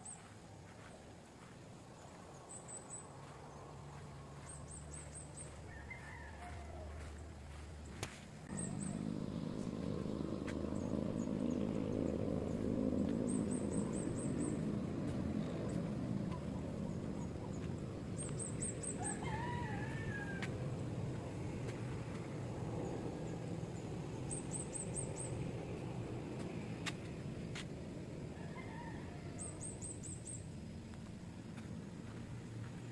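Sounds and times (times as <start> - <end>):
steady low rumble: 0.0 - 32.9.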